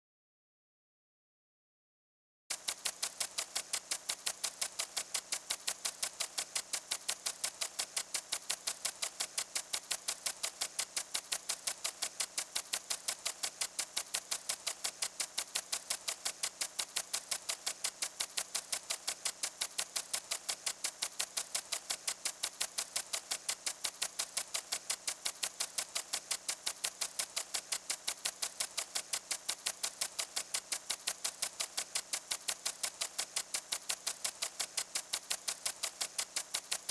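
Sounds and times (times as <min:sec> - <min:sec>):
impact sprinkler ticking: 0:02.5 - 0:36.9
sprinkler spray hiss: 0:02.5 - 0:36.9.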